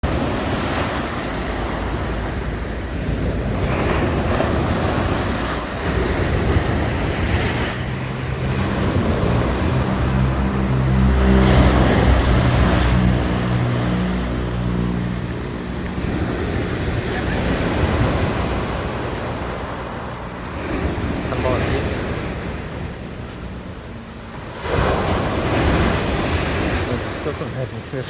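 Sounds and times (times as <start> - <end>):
engine humming: 0.0 - 28.0
sea waves breaking ashore: 0.0 - 28.0.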